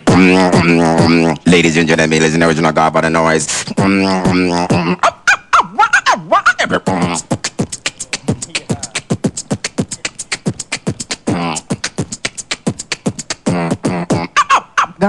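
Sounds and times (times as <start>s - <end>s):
clicking mouth percussion: 0.0s - 1.6s, 3.6s - 15.0s
beatboxing vocal glides: 0.0s - 15.0s.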